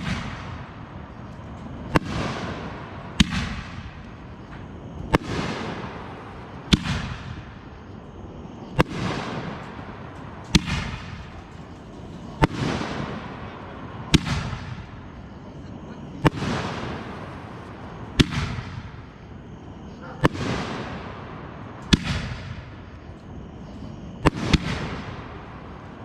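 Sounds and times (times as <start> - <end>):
fireworks bangs with rolling echo: 0.0 - 26.0.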